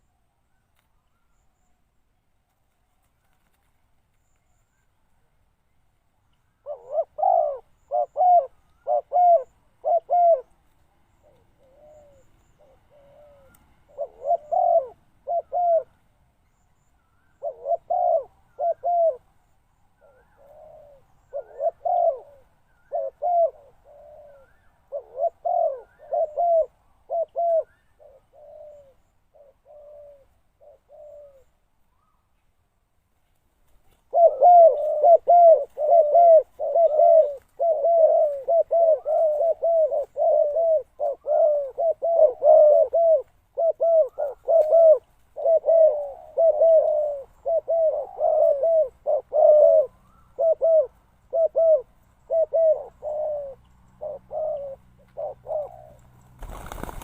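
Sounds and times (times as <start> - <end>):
dove cooing: 6.6 - 16.0, 17.3 - 19.3, 20.0 - 31.6, 34.0 - 57.0.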